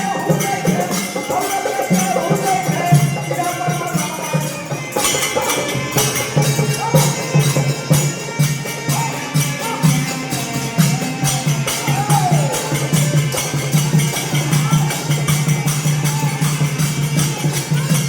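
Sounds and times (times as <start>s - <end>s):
steady drum beat: 0.0s - 18.0s
tambourine jingling: 0.0s - 18.0s.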